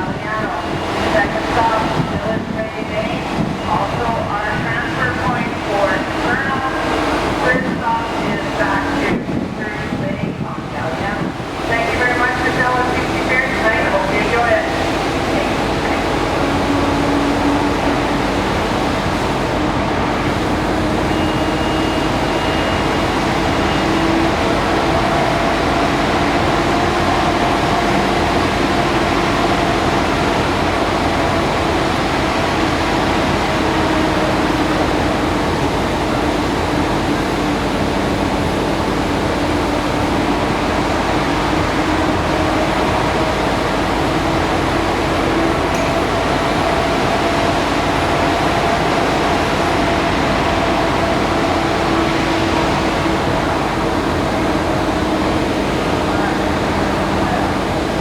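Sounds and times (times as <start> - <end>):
rushing noise: 0.0 - 58.0
ship engines droning: 0.0 - 58.0.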